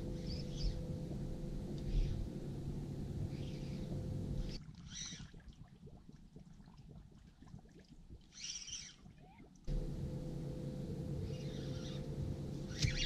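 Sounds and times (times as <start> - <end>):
low hum of boat on water: 0.0 - 13.0.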